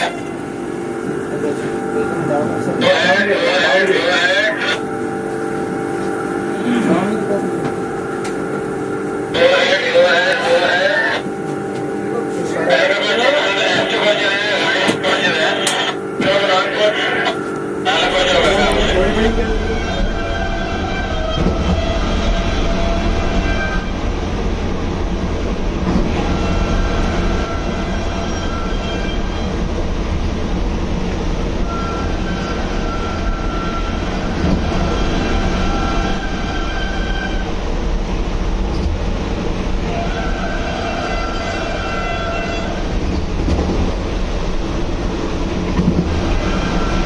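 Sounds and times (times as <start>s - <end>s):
high whine: 0.0s - 43.2s
wheels rumbling on rail: 0.0s - 47.0s.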